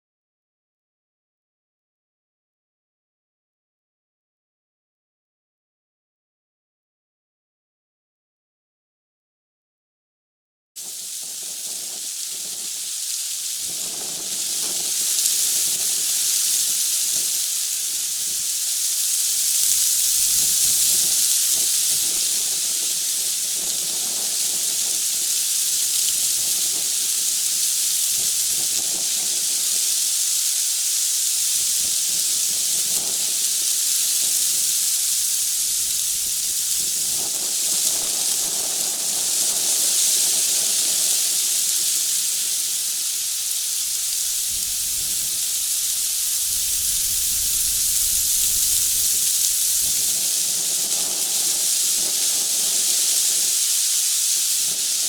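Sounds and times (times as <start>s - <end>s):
steady high-pitched hiss: 10.8s - 55.0s.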